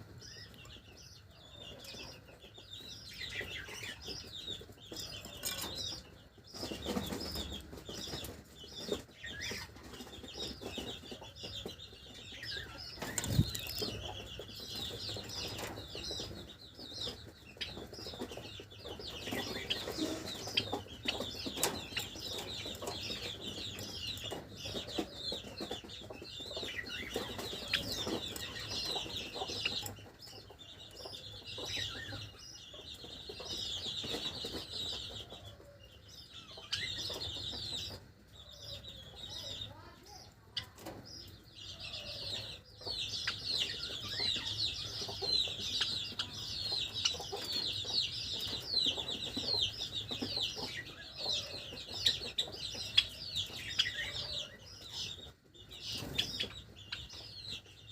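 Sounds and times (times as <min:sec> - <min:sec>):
sparrows chirping: 0:00.0 - 0:57.9.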